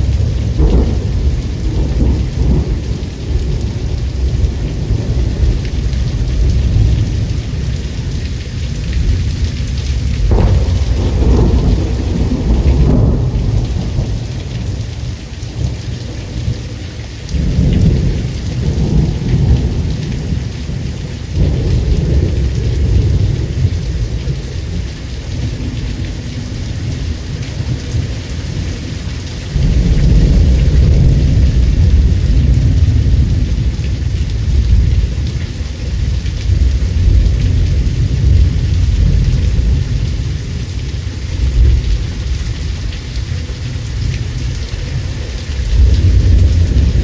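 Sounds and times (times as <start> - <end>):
rolling thunder: 0.0 - 16.6, 17.3 - 26.5, 29.5 - 47.0
heavy rain: 0.0 - 47.0.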